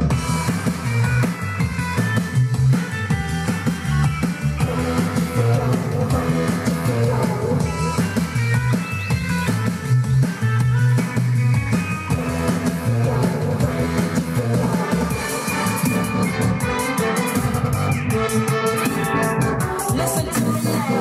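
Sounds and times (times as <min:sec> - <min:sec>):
rock music with drums and guitar: 0:00.0 - 0:21.0.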